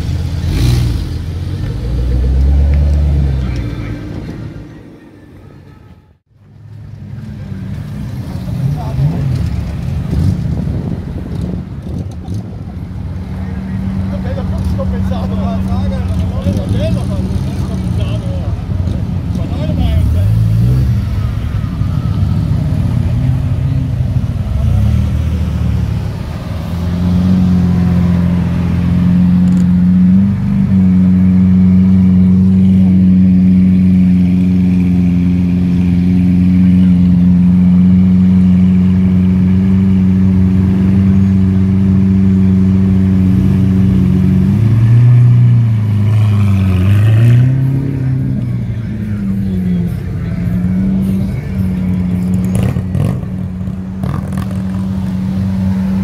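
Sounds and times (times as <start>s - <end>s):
car engines running loudly: 0.0s - 5.5s, 6.3s - 56.0s.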